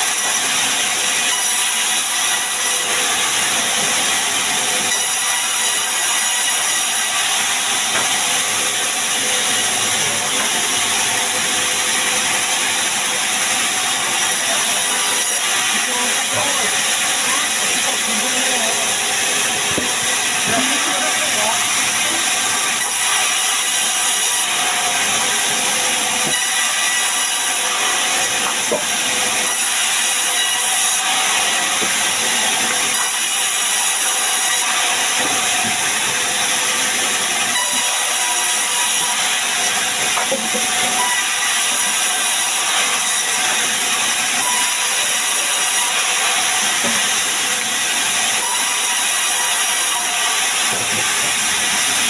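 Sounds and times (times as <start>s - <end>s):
band saw cutting log: 0.0s - 52.0s.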